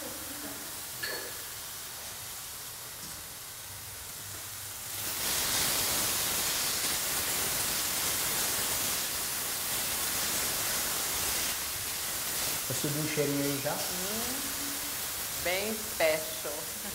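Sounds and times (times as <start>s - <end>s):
food sizzling in oil: 0.0s - 16.9s.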